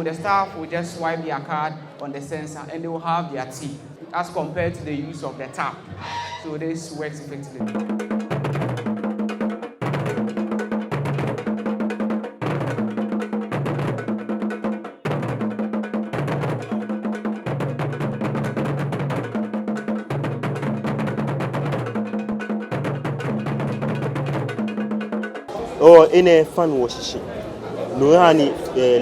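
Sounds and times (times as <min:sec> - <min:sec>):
music with fast percussion beat: 0:03.5 - 0:27.2.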